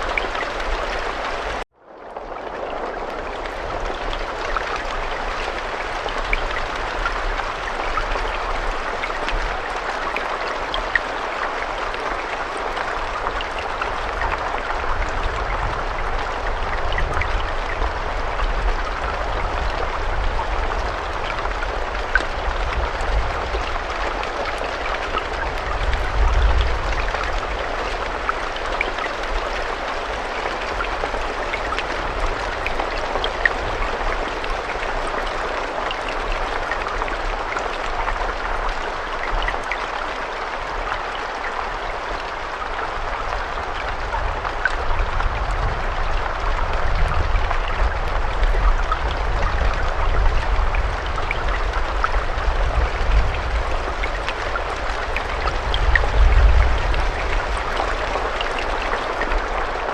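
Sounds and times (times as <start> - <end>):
raindrops ticking: 0.0 - 59.9
steady rain hiss: 0.0 - 59.9.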